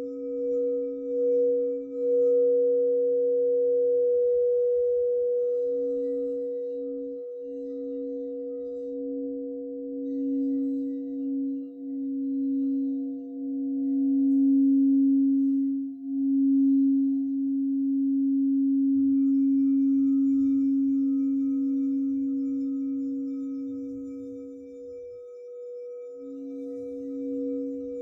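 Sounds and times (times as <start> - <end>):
singing bowl low tone: 0.0 - 28.0.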